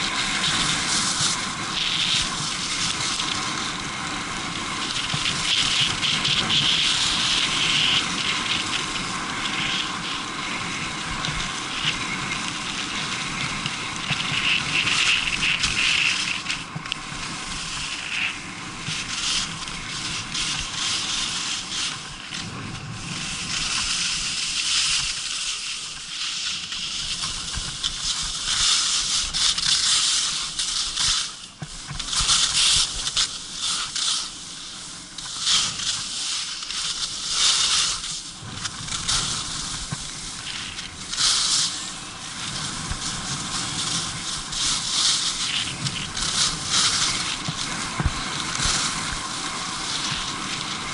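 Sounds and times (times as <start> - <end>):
skis scraping on hard snow: 0.0 - 50.9.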